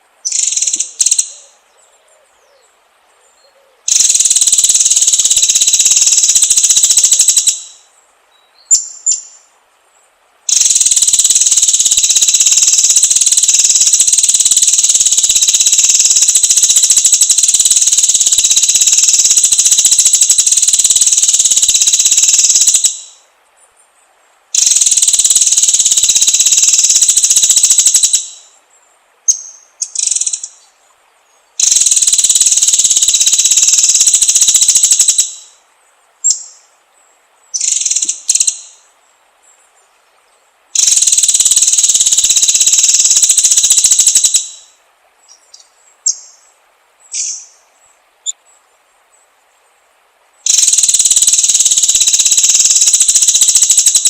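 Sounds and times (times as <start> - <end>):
bird song buzzing bursts: 0.2 - 1.7, 3.8 - 9.5, 10.5 - 23.3, 24.5 - 28.6, 29.3 - 35.6, 36.2 - 38.9, 40.7 - 48.5, 50.4 - 54.0.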